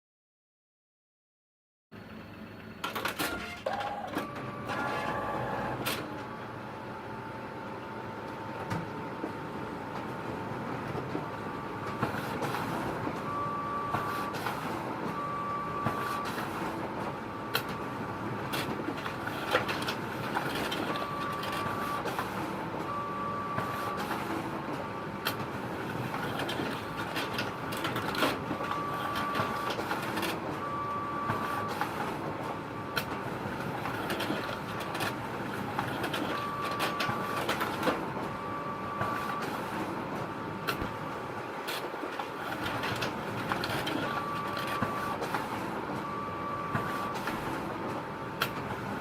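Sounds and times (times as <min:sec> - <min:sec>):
photocopier humming: 0:02.2 - 0:49.0.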